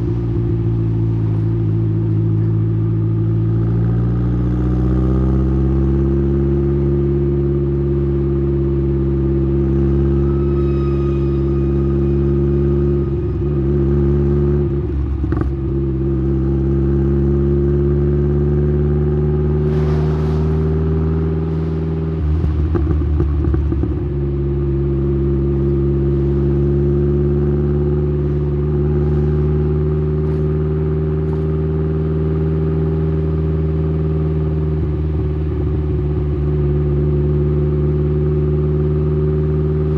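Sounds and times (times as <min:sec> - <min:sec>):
car exhaust drone cruising: 0:00.0 - 0:39.9.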